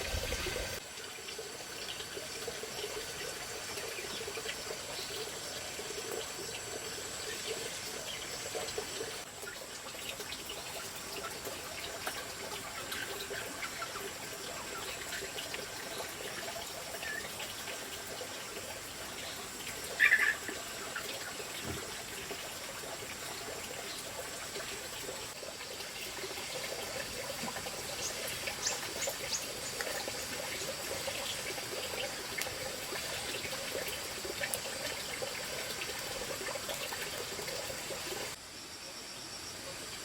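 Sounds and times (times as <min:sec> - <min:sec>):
water trickling: 0:00.0 - 0:38.4.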